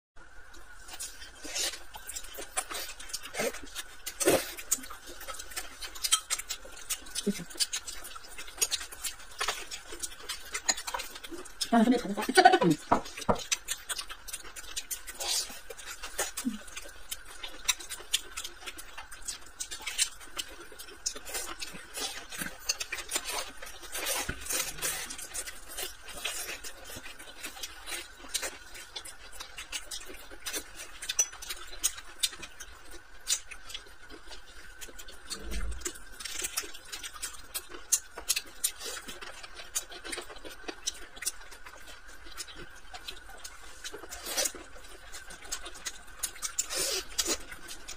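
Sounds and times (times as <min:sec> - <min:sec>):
wet chewing and lip smacking: 0:00.6 - 0:47.9.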